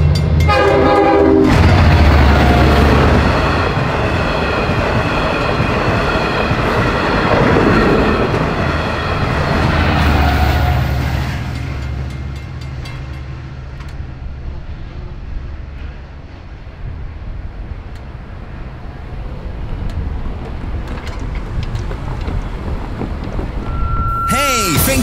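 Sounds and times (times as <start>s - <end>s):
diesel train rumbling: 0.0s - 25.0s.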